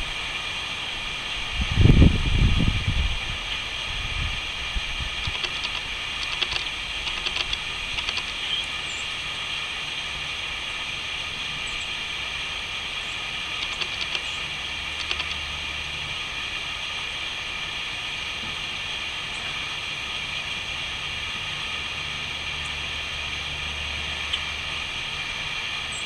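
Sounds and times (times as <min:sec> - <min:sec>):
leaves rustling in gusts: 0:00.0 - 0:26.0
wind hissing through leaves: 0:00.0 - 0:26.0.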